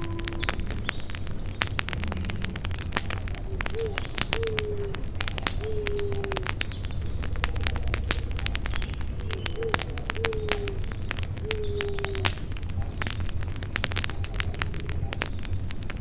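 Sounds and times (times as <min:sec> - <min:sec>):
bird hooting: 0:00.0 - 0:01.6, 0:02.3 - 0:13.1, 0:13.9 - 0:15.3
campfire crackling and popping: 0:00.0 - 0:16.0.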